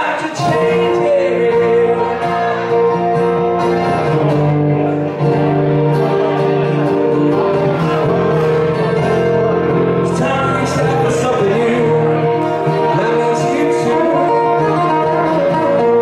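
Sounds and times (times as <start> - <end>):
guitars playing held chords: 0.0 - 16.0.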